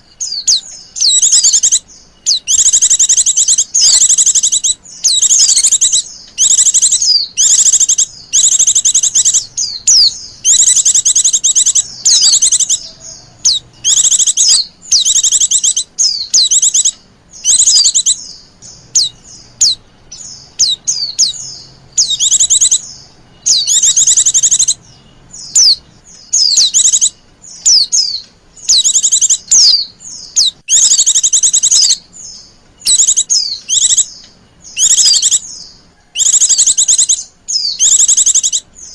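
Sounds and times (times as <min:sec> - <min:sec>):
bird high trilled calls: 0:00.0 - 0:38.9.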